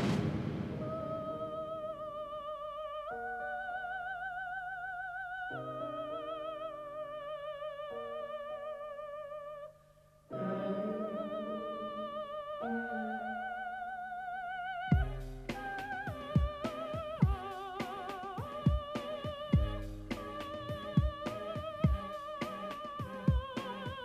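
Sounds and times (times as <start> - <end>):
operatic soprano singing: 0.8 - 24.0.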